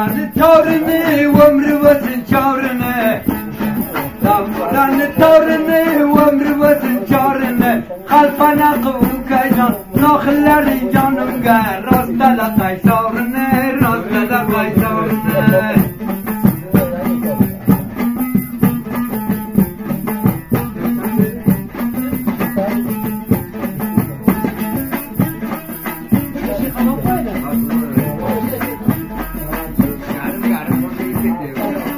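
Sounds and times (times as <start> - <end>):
lute strummed fast: 0.0 - 31.9
man singing: 0.0 - 31.9.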